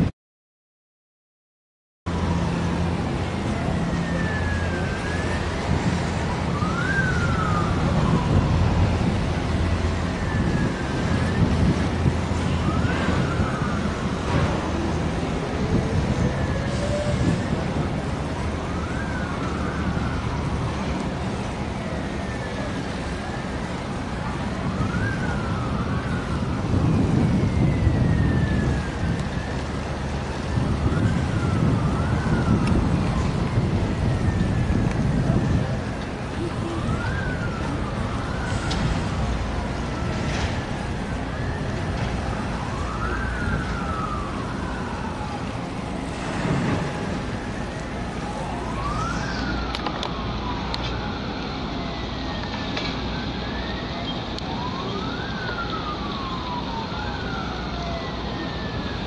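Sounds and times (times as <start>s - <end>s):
siren wailing: 2.2s - 59.0s.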